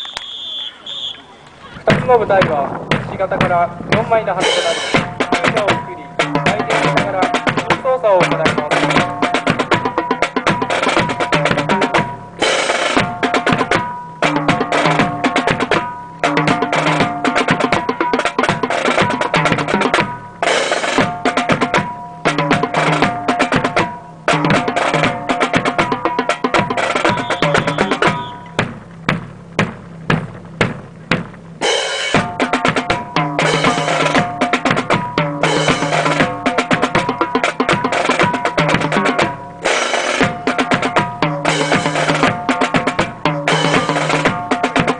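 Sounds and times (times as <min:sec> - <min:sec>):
marching snare and bass drums: 0:00.0 - 0:44.9.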